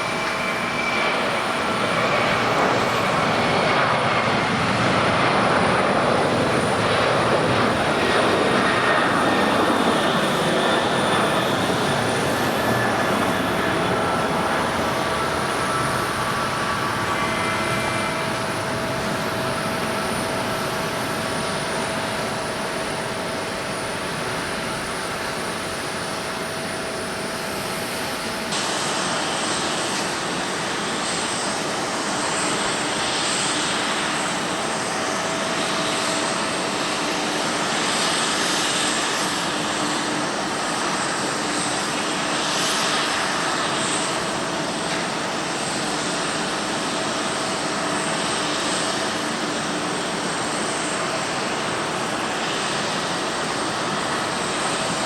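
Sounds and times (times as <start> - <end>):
jet airliner engines: 0.0 - 55.0
jet airliner taking off: 0.0 - 55.0.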